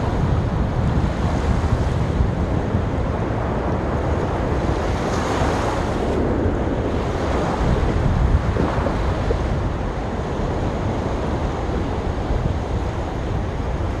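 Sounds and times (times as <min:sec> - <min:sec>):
waves breaking on beach: 0:00.0 - 0:14.0
wind rumble on microphone: 0:00.0 - 0:14.0.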